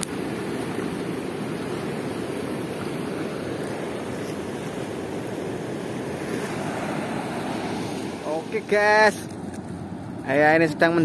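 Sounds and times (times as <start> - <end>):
river water rushing: 0.0 - 10.2.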